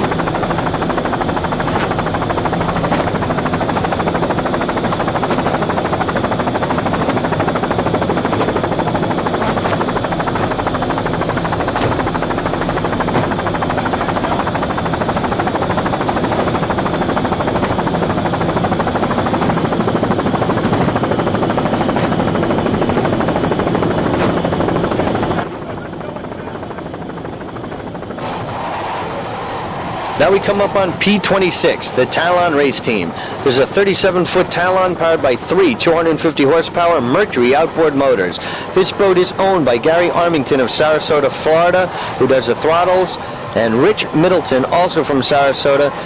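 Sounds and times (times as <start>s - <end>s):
engine drone: 0.0s - 46.0s.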